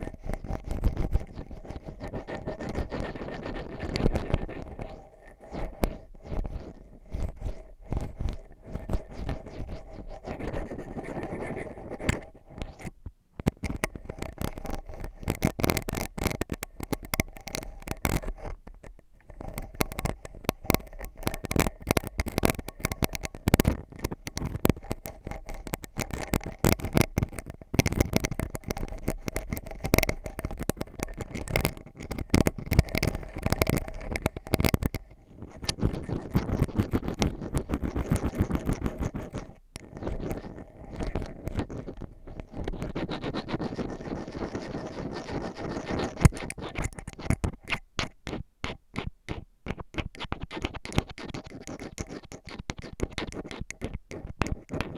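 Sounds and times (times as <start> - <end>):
ear pick scratching and tapping: 0.0 - 54.9.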